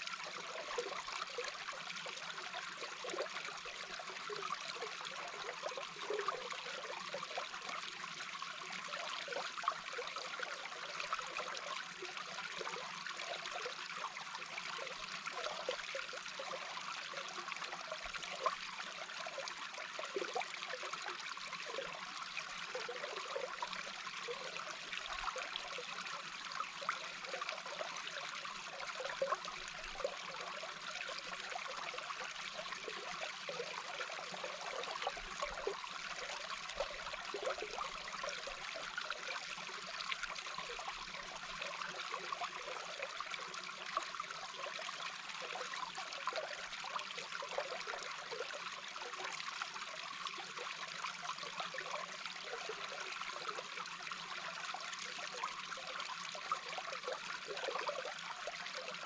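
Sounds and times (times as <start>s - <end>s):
flowing water underwater: 0.0s - 59.0s.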